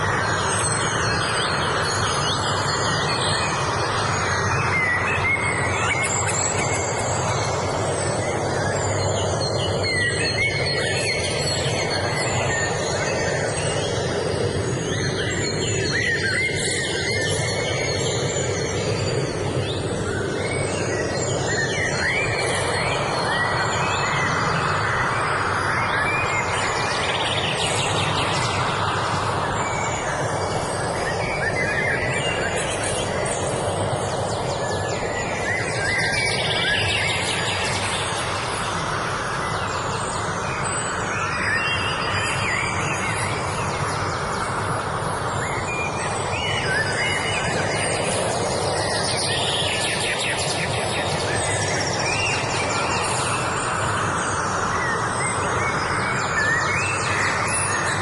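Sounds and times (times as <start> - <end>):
loud steady rushing noise: 0.0 - 58.0
songbirds chirping and whistling: 0.0 - 58.0.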